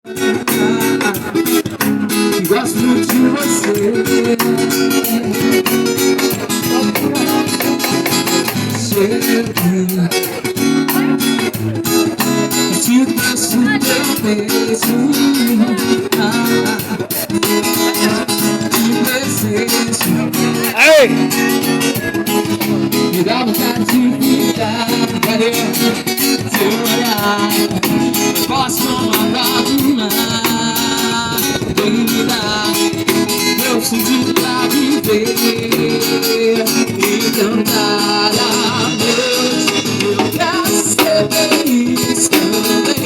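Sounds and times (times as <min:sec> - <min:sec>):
acoustic guitar strumming: 0:00.1 - 0:43.0.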